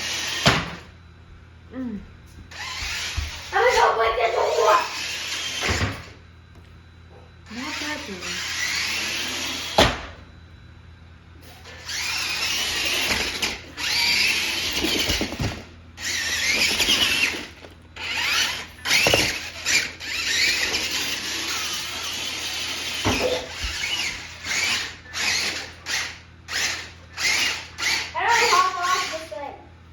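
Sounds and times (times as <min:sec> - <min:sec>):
toy motor whirring: 0:00.0 - 0:00.5, 0:02.5 - 0:06.2, 0:07.5 - 0:09.8, 0:11.5 - 0:29.5.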